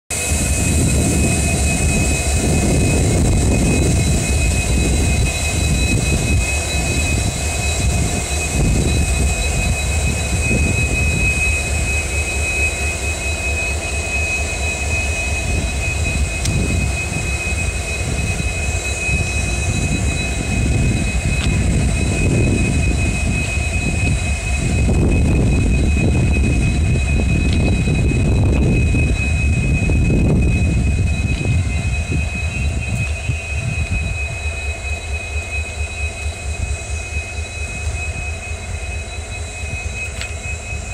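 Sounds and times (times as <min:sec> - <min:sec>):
diesel locomotive engine running: 0:00.1 - 0:40.9
freight train rolling past: 0:00.1 - 0:40.9.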